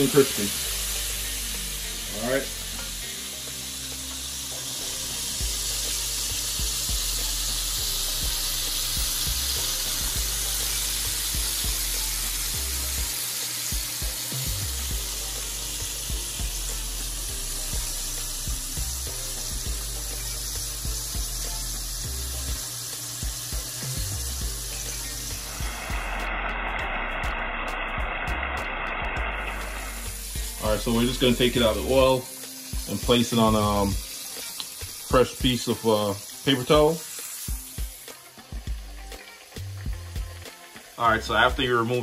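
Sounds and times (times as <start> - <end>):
background music with beat and bass: 0.0 - 42.0
fish sizzling in hot oil: 0.0 - 42.0.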